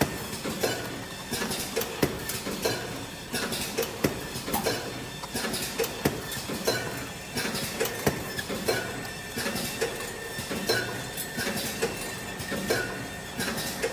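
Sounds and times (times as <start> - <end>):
steady machine noise: 0.0 - 13.9
machine mechanism clacking: 0.1 - 13.9.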